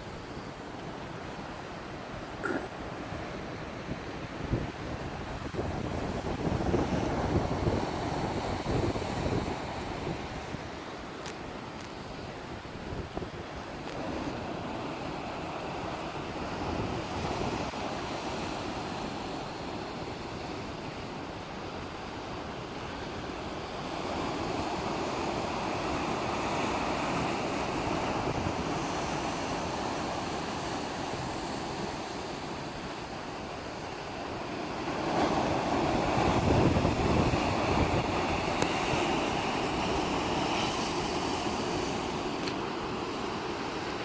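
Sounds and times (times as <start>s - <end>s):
sea waves washing onto shore: 0.0s - 44.0s.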